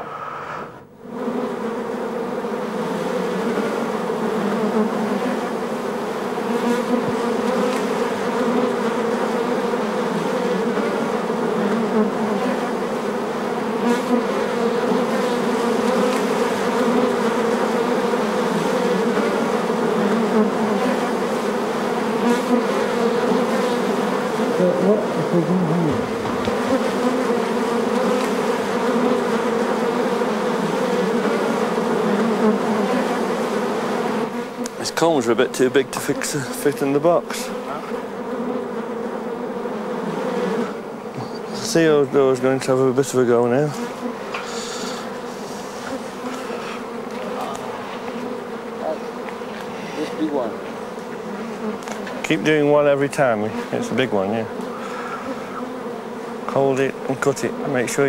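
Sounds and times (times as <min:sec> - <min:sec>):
bee buzz sliding down in pitch: 0:00.0 - 0:35.0, 0:36.0 - 0:42.1, 0:43.6 - 0:58.0
honeybee colony buzzing: 0:00.0 - 0:58.0.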